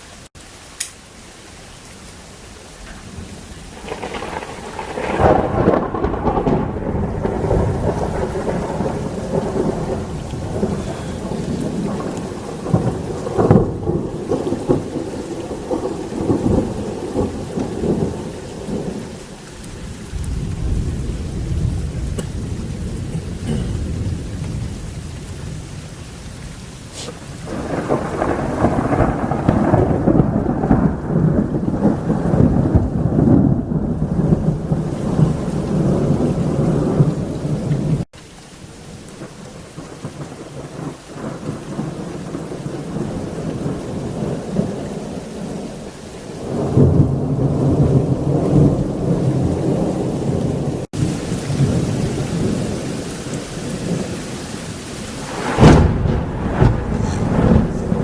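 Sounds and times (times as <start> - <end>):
heavy rain falling: 0.0 - 58.0
rolling thunder: 3.0 - 38.1, 39.7 - 58.0.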